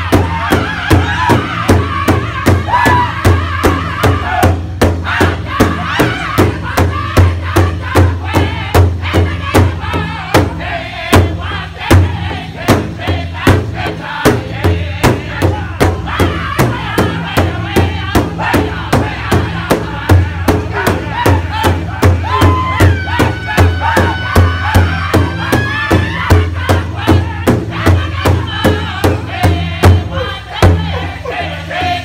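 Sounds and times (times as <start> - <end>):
big hand drum beating: 0.0 - 32.0
men singing in unison: 0.0 - 32.0.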